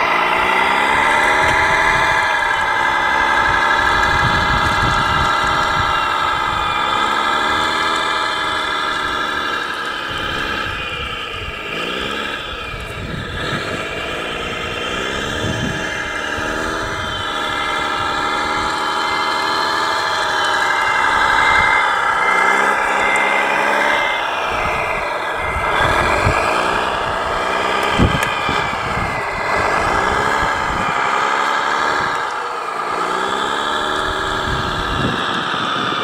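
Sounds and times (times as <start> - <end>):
model bulldozer whining: 0.0 - 36.0.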